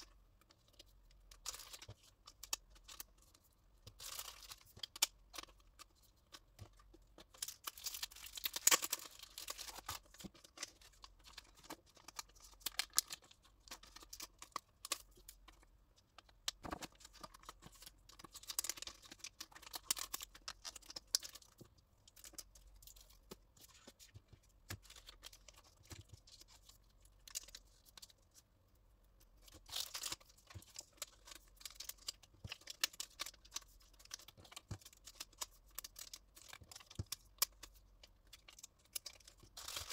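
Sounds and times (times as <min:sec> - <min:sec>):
plastic wrapping crinkling: 0:00.0 - 0:28.4, 0:29.4 - 0:39.9.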